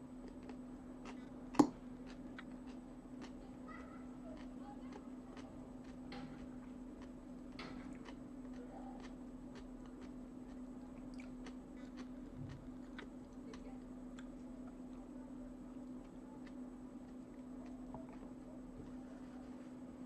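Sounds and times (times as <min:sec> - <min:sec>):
steady low hum: 0:00.0 - 0:20.0
chewing: 0:00.2 - 0:15.1, 0:15.7 - 0:18.7.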